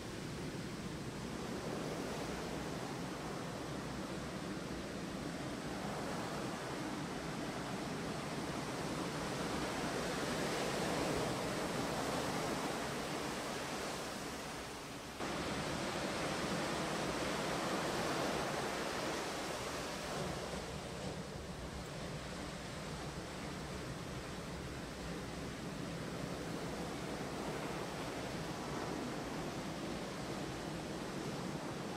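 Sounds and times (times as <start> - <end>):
large waves breaking on beach: 0.0 - 31.9.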